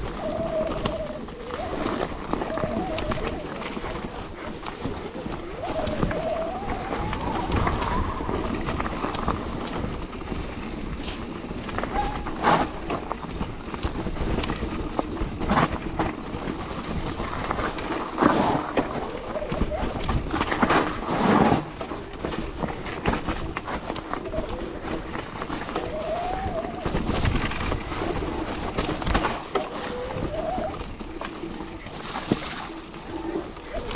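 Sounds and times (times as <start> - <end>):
bike clattering over bumps: 0.0 - 33.9
low rumble of tyres and wind: 0.0 - 33.9.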